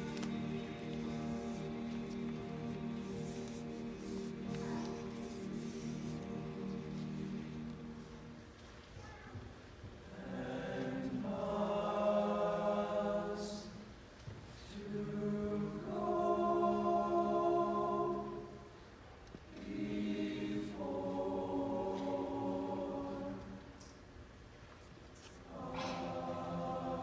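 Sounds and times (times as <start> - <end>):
choir singing in harmony: 0.0 - 8.6, 10.1 - 14.0, 14.6 - 18.9, 19.5 - 23.9, 25.5 - 27.0.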